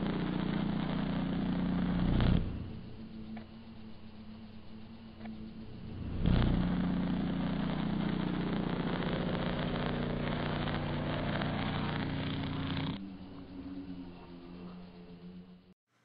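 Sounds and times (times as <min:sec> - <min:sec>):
electric arc crackling buzz: 0:00.0 - 0:13.0
faint transformer hum: 0:00.0 - 0:15.7.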